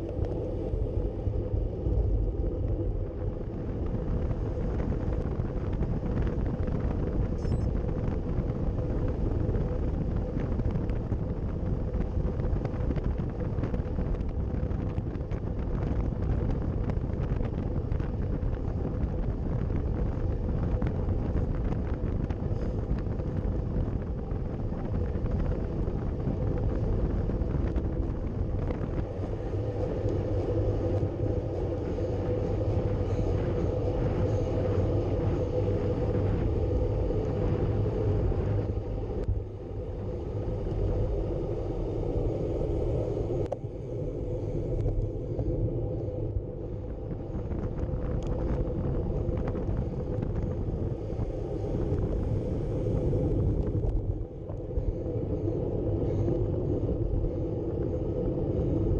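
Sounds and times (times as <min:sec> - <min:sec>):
road rumble: 0:00.0 - 0:58.9
wind buffeting microphone: 0:00.0 - 0:58.9.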